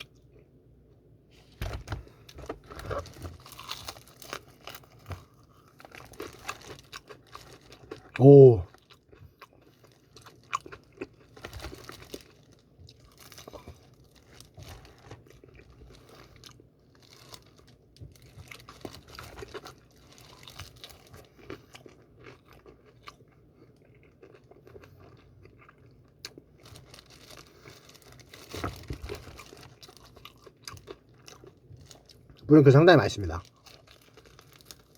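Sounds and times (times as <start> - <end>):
crunching and chewing fried chicken: 0.0 - 34.9.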